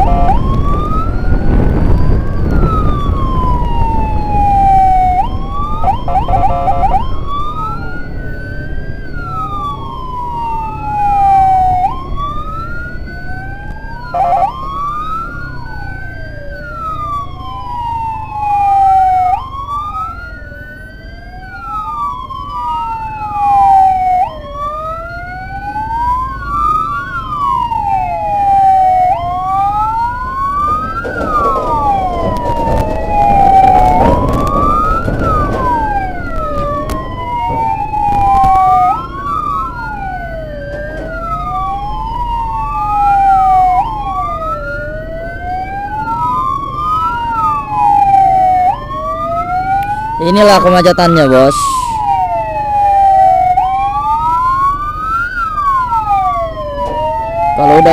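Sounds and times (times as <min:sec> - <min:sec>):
emergency sirens wailing: 0:00.0 - 0:57.9
traffic rumble: 0:00.0 - 0:57.9.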